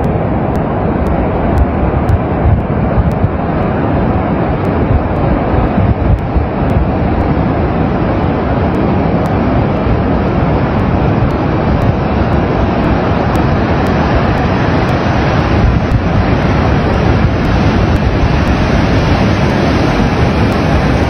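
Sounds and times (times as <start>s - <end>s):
rushing roar of breaking water: 0.0s - 21.0s
wind buffeting microphone: 0.0s - 21.0s.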